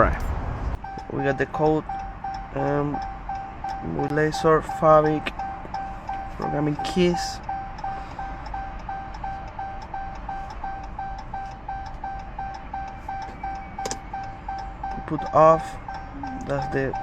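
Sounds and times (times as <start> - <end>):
rapid electronic beeping: 0.0 - 17.0.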